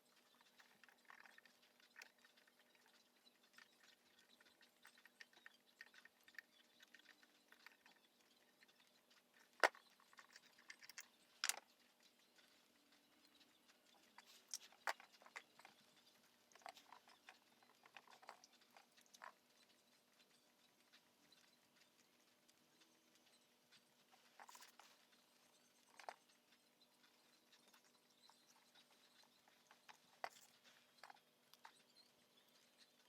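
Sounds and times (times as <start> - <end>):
small tools clicking and tapping: 0.0 - 33.0.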